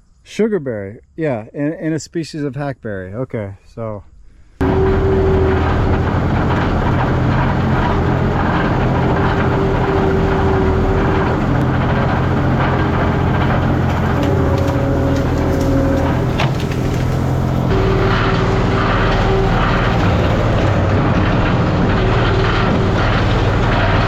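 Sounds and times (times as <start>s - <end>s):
engine running steadily: 4.6s - 24.0s.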